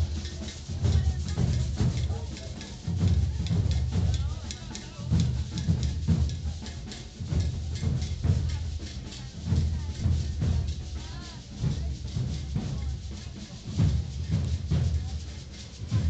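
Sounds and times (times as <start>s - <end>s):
bass drums beating: 0.0s - 16.0s
sharp bright drum strokes: 0.0s - 16.0s
voices: 0.0s - 16.0s.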